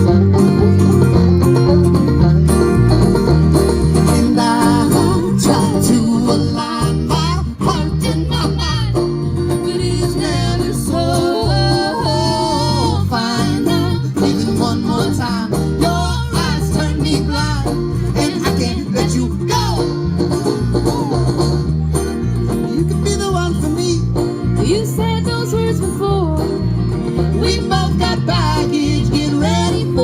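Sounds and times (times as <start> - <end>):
plucked string instruments: 0.0 - 30.0
steady bass line: 0.0 - 30.0.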